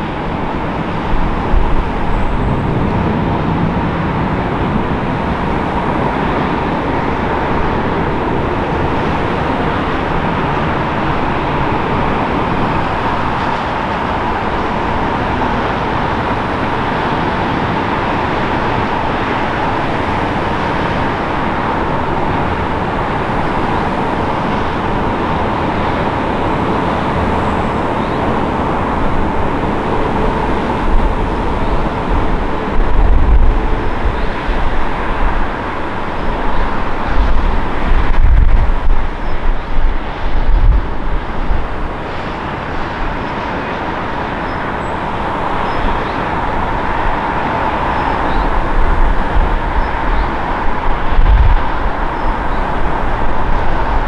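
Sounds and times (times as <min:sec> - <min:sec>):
airliner touchdown rumble: 0:00.0 - 0:54.0
faint engine whine: 0:00.0 - 0:54.0
jet engines roaring: 0:00.0 - 0:54.0.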